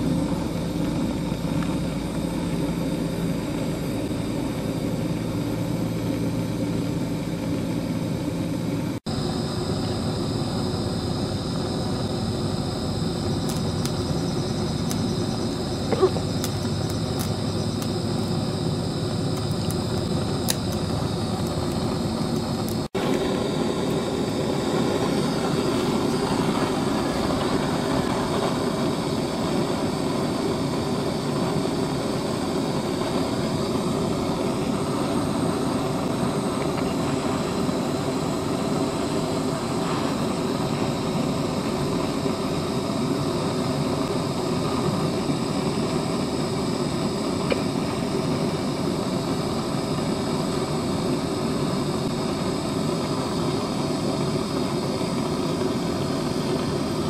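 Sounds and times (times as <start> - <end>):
blowtorch flame roaring: 0.0 - 57.0.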